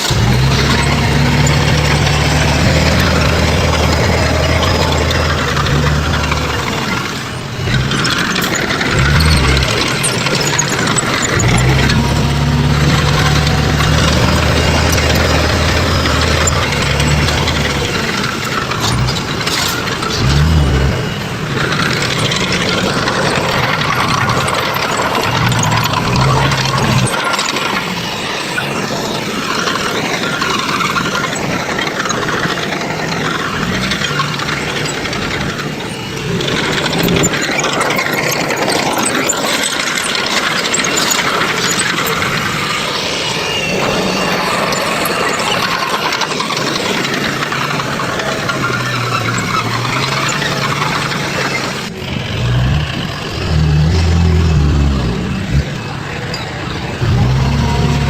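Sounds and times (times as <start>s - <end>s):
construction machine engine hum: 0.0s - 58.0s
mechanical clatter: 0.0s - 58.0s.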